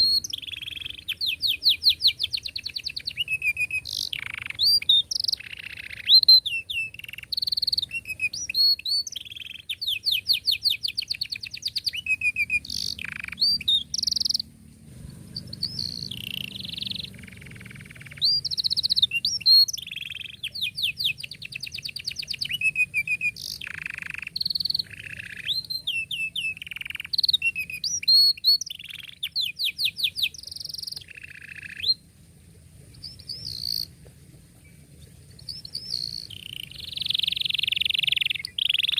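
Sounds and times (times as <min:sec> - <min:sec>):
canary singing: 0:00.0 - 0:32.1, 0:32.9 - 0:34.0, 0:34.7 - 0:38.9.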